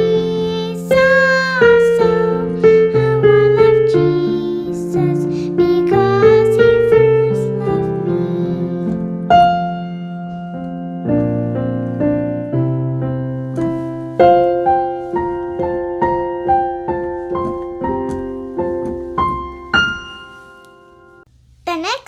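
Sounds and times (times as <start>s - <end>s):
slow piano playing: 0.0s - 21.3s.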